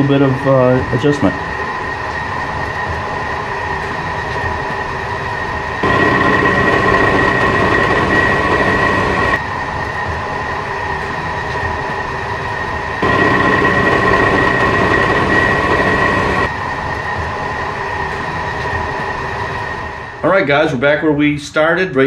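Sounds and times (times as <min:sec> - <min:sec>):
milling machine spindle humming: 0:00.3 - 0:19.8.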